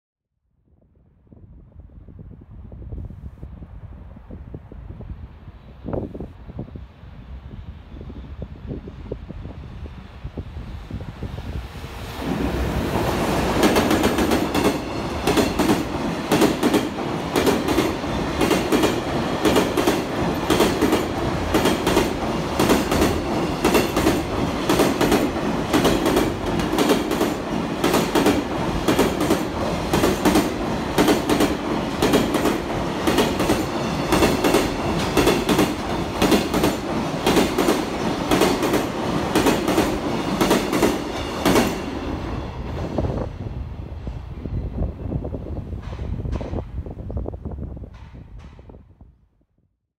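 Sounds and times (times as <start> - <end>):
freight train rolling rumble: 1.9 - 49.0.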